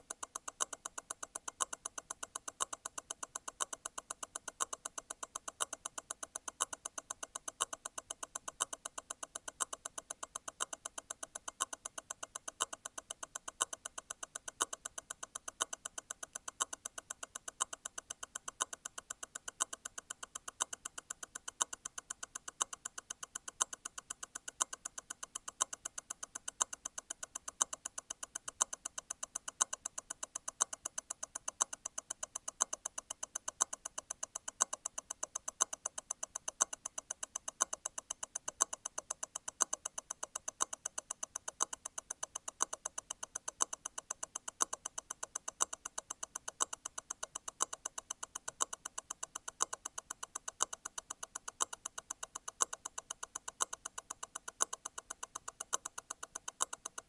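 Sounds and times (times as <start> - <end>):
watch movement ticking: 0.0 - 57.0.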